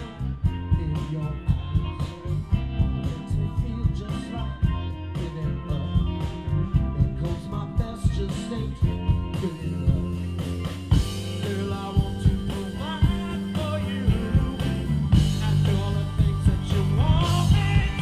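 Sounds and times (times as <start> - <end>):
bass guitar: 0.0 - 18.0
drum kit beats: 0.0 - 18.0
electric guitars: 0.0 - 18.0
person singing: 0.0 - 18.0.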